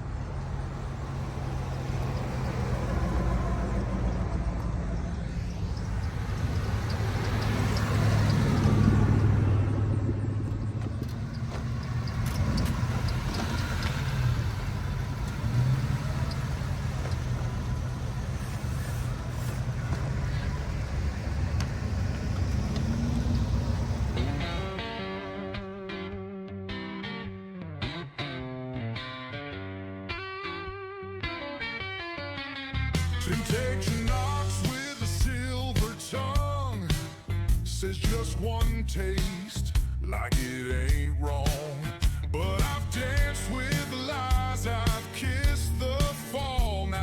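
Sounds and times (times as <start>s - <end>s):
vehicle engine droning: 0.0s - 26.8s, 32.7s - 47.0s.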